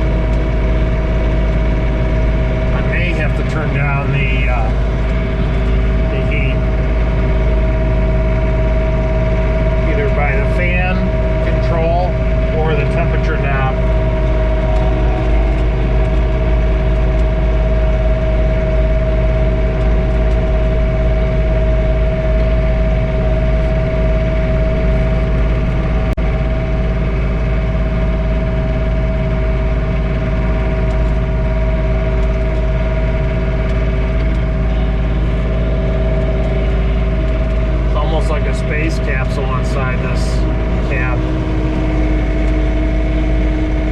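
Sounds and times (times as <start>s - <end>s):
steady whine: 0.0s - 43.9s
tractor diesel engine drone: 0.0s - 43.9s.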